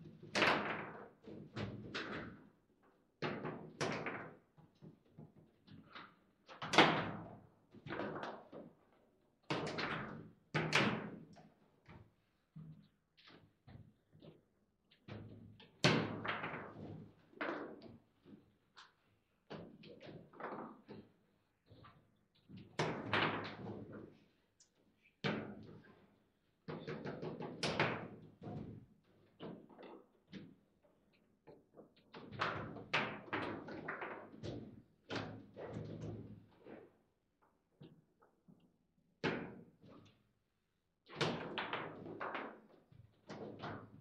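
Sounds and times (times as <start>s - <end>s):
table football knocks and clacks: 0.0s - 2.6s, 3.2s - 8.9s, 9.5s - 24.2s, 25.2s - 26.0s, 26.7s - 30.6s, 31.5s - 36.9s, 41.1s - 44.0s.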